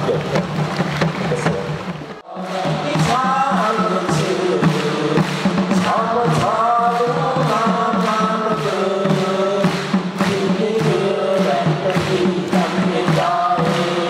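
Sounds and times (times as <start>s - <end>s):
backing track with steady beat: 0.0s - 14.0s
choir singing in harmony: 2.2s - 14.0s.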